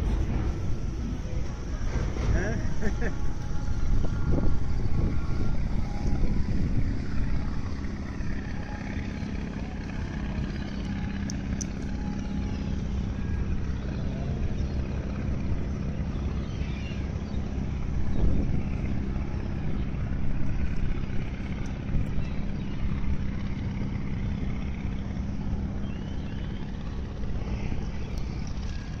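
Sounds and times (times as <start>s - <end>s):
boat engine drone: 0.0s - 29.0s.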